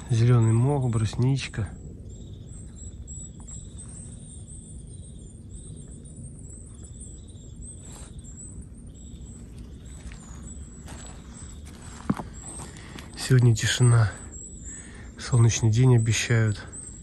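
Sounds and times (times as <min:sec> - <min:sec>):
low steady rumble: 0:00.0 - 0:15.2
high-pitched bird calls: 0:00.0 - 0:17.0.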